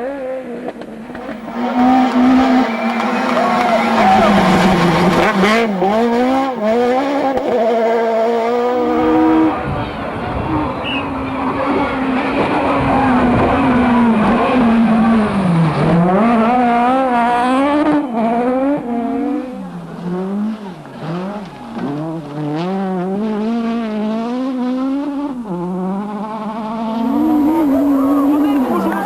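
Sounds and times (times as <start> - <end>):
rally car engine revving hard: 0.0 - 29.0.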